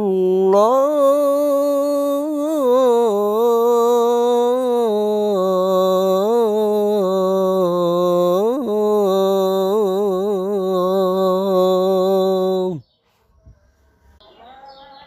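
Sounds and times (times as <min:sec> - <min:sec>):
man chanting: 0:00.0 - 0:12.8.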